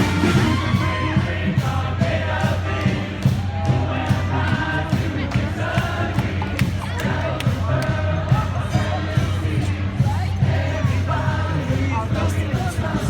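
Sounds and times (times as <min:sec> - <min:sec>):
crowd noise: 0:00.0 - 0:13.0
drum beat: 0:00.0 - 0:13.0
street band playing: 0:00.0 - 0:13.0.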